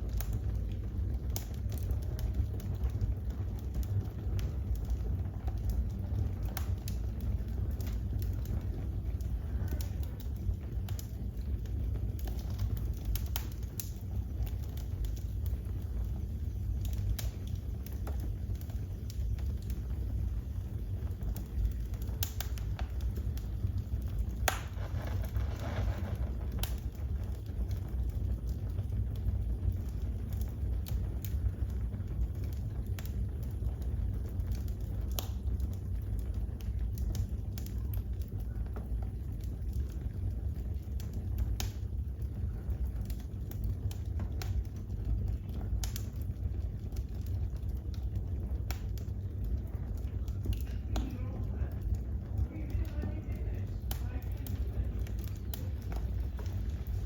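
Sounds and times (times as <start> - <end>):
low rumble: 0.0 - 57.0
wood fire crackling: 0.0 - 57.0.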